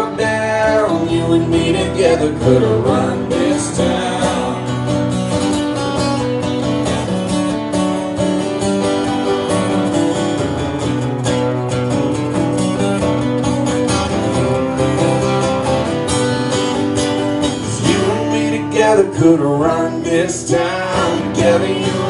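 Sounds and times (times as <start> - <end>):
acoustic guitars strumming chords: 0.0 - 22.0.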